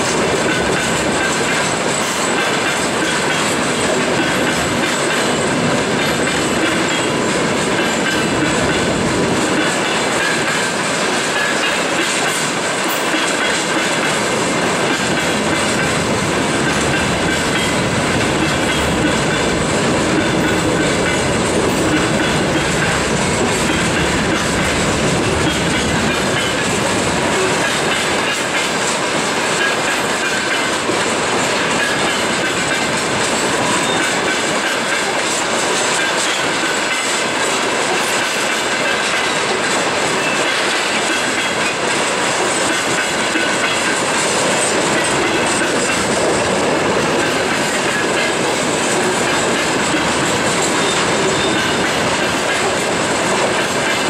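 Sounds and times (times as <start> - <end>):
steel wheels rumbling on rails: 0.0 - 54.0
wheels clattering over rail joints: 0.0 - 54.0.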